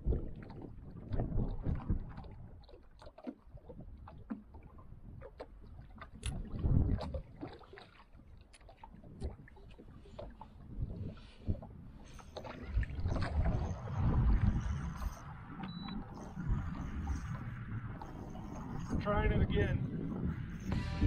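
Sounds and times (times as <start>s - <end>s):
waves slapping boat hull: 0.0s - 20.5s.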